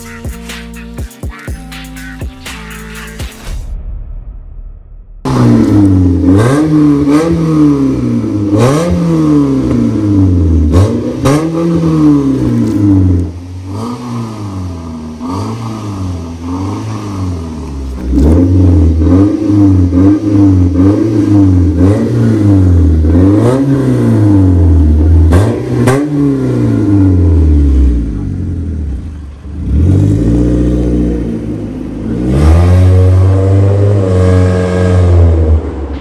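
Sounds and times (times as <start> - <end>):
exhaust cracks: 3.4 - 36.0
car engine revving: 4.8 - 36.0.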